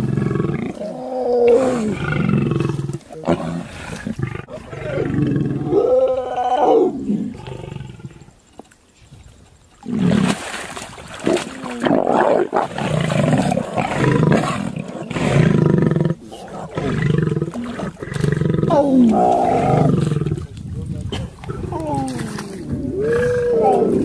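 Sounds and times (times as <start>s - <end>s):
lions growling and roaring: 0.0s - 8.4s, 11.2s - 20.6s, 21.2s - 24.0s.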